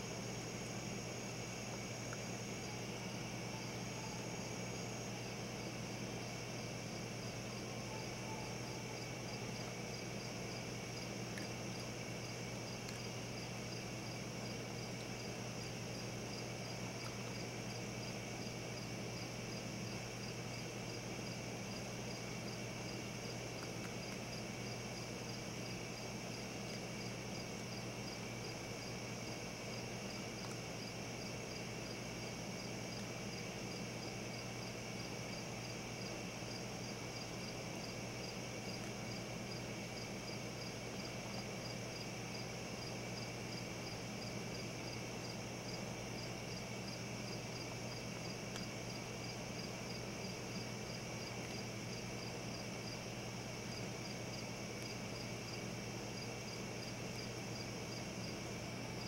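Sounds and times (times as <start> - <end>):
crickets chirping: 0.0 - 59.0
low hum and hiss: 0.0 - 59.0.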